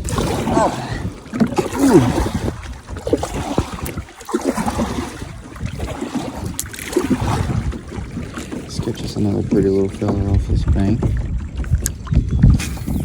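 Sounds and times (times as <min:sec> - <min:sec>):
water lapping against hull: 0:00.0 - 0:13.0
wind buffeting microphone: 0:00.0 - 0:13.0.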